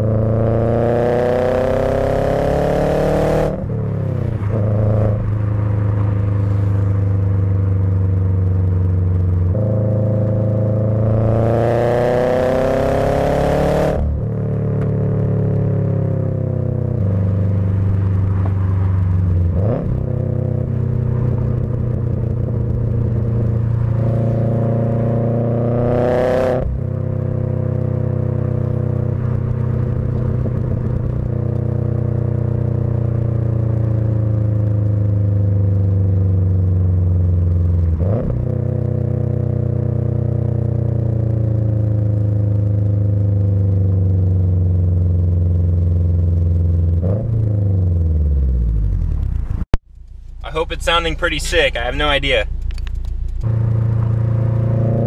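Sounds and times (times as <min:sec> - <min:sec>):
car exhaust accelerating: 0:00.0 - 0:55.0.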